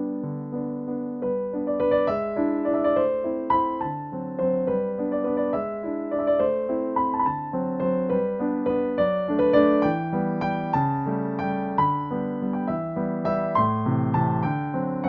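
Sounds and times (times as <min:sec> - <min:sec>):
keyboard playing chords and melody: 0:00.0 - 0:15.0.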